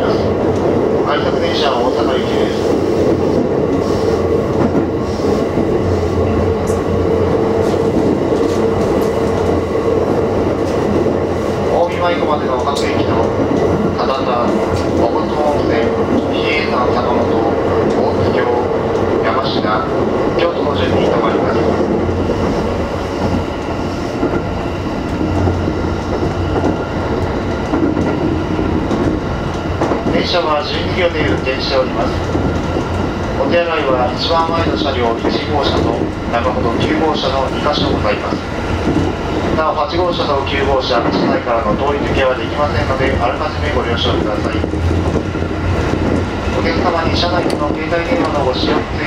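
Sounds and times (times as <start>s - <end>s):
train wheels rumbling on rails: 0.0s - 49.0s
faint clicks over rails: 2.4s - 20.0s, 20.8s - 49.0s.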